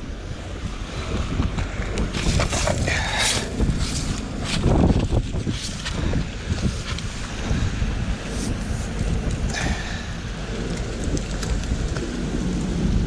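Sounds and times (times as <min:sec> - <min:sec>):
wind buffeting microphone: 0:00.0 - 0:13.0
faint clicks and rustles: 0:01.0 - 0:09.8, 0:10.4 - 0:13.0.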